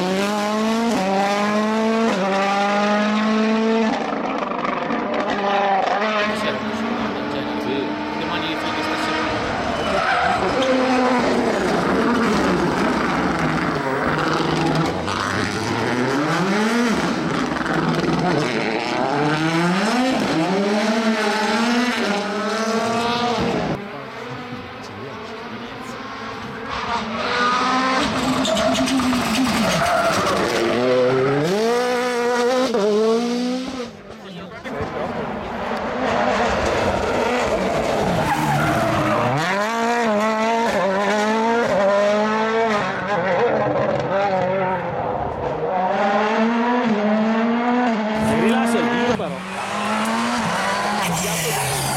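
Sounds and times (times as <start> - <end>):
rally car engine accelerating: 0.0 - 51.9
tyres skidding: 0.0 - 51.9.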